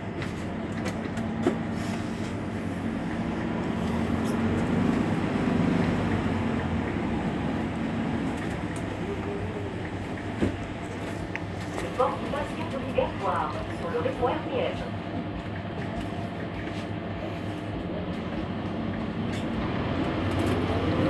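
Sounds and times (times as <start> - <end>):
bus engine idling: 0.0 - 21.0.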